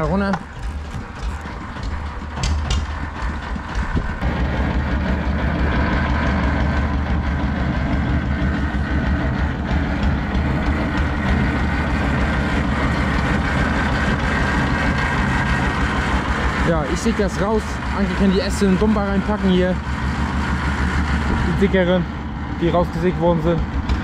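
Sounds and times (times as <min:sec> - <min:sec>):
heavy vehicle engine rumbling: 0:00.0 - 0:24.0.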